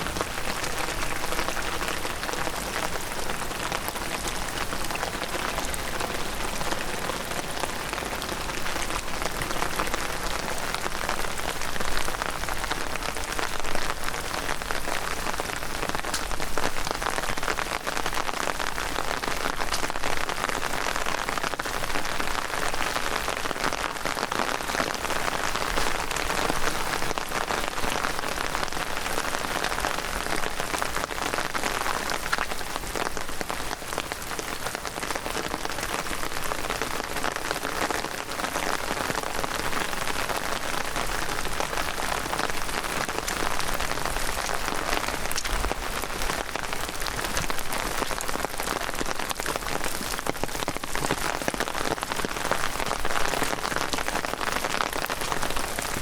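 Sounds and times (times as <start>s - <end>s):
heavy rain patter: 0.0s - 56.0s.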